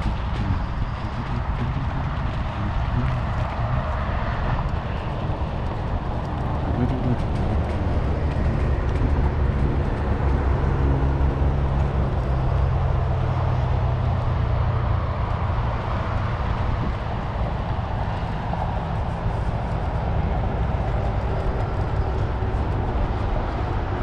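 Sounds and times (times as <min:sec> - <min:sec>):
bicycle riding rumble: 0:00.0 - 0:24.0
low engine-like drone: 0:00.0 - 0:24.0
wind noise: 0:00.0 - 0:24.0.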